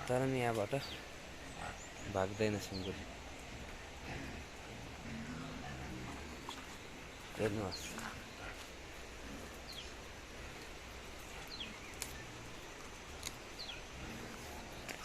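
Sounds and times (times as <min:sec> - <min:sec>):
faint rural background noise: 0:00.0 - 0:15.0.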